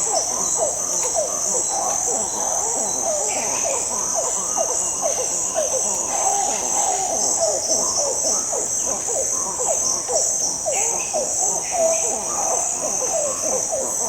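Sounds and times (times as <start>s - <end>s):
monkeys calling: 0.0s - 14.0s.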